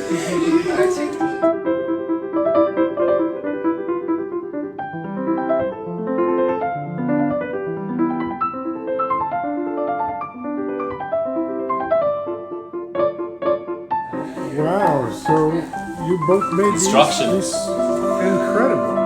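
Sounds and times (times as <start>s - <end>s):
piano melody: 0.0s - 19.0s.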